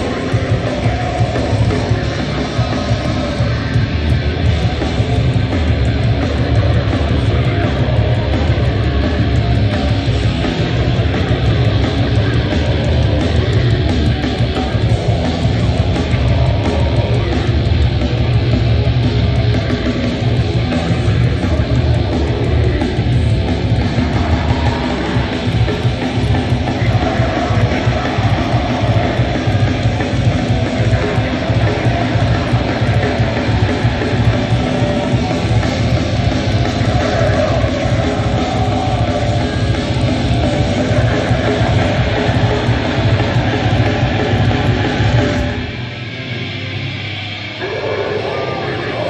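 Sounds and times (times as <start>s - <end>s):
bass guitar: 0.0s - 49.0s
distorted electric guitar: 0.0s - 49.0s
drums: 0.0s - 49.0s.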